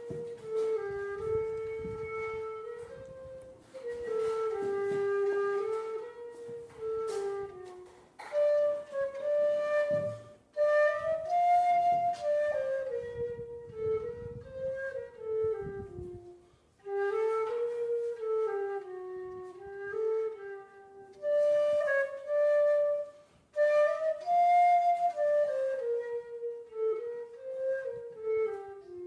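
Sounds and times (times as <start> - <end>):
slow solo flute melody: 0.0 - 29.0.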